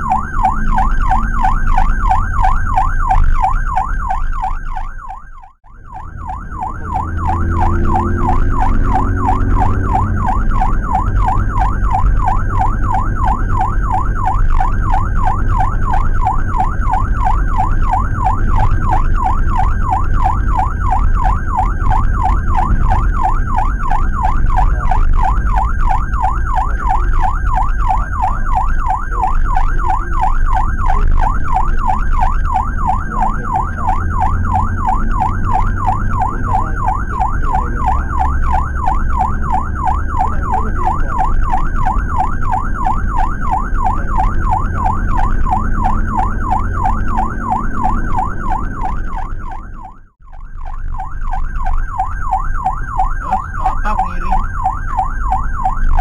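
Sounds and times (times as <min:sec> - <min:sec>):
electronic siren yelping: 0:00.0 - 0:56.0
engine and road rumble: 0:00.0 - 0:56.0.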